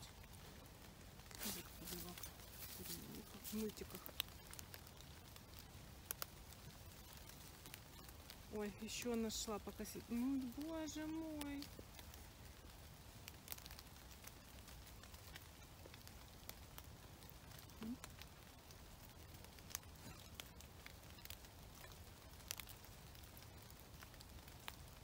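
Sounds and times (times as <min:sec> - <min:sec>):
raindrops dripping on leaves: 0:00.0 - 0:25.0
soft steady hiss: 0:00.0 - 0:25.0.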